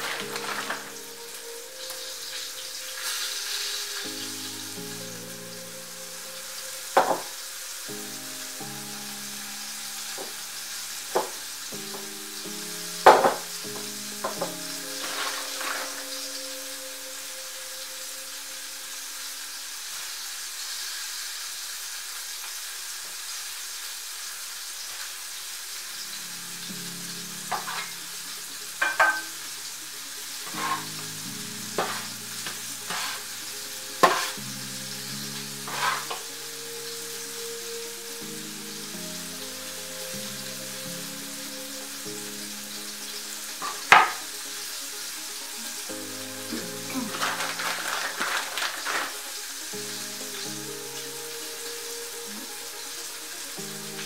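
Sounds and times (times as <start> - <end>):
soft background music: 0.0 - 20.4, 25.8 - 54.0
steady hiss: 0.0 - 54.0.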